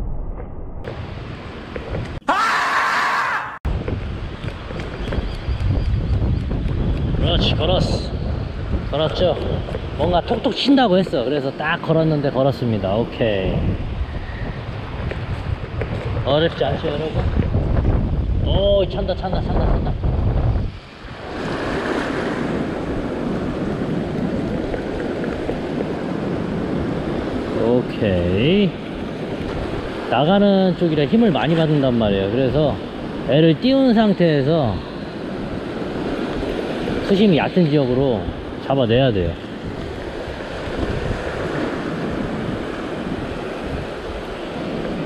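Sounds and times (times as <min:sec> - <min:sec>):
wind buffeting microphone: 0:03.6 - 0:45.0.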